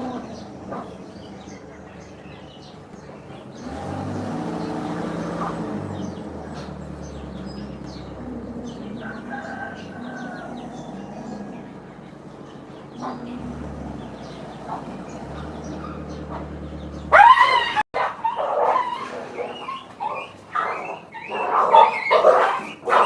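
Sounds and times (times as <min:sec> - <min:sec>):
bird chirps and calls: 0:00.0 - 0:17.8, 0:18.8 - 0:23.0.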